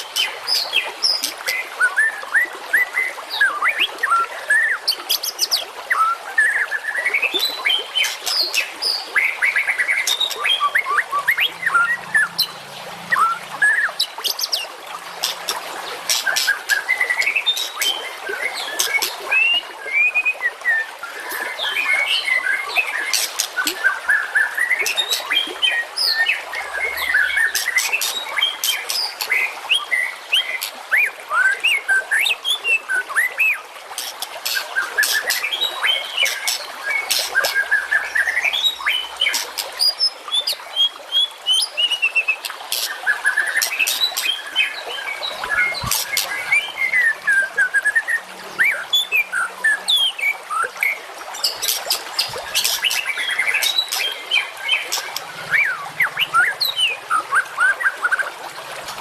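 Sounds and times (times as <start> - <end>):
songbirds chirping and trilling: 2.8 - 59.0.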